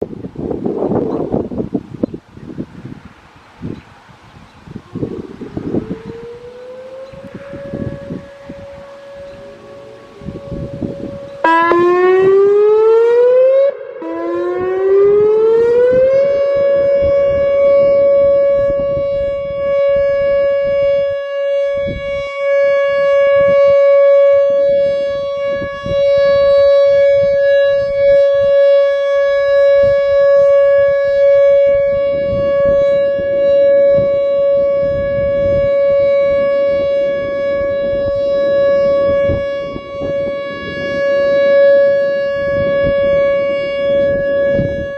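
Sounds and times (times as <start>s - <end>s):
electronic siren steady tone: 0.0s - 44.9s.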